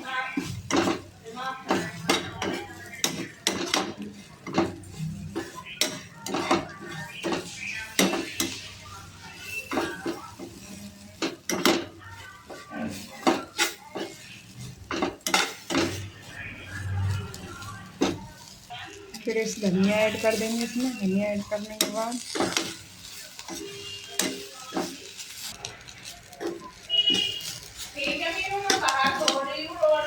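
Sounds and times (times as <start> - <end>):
metal utensil scraping a pan: 0.0 - 30.0.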